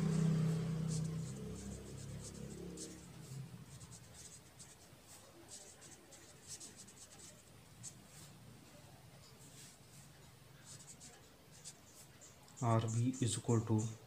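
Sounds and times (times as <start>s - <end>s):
pen scratching on paper: 0.0s - 8.3s, 9.4s - 14.0s.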